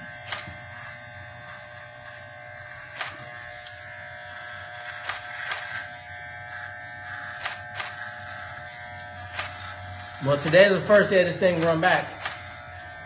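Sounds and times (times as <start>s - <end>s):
electric hair clippers buzzing: 0.0s - 13.0s.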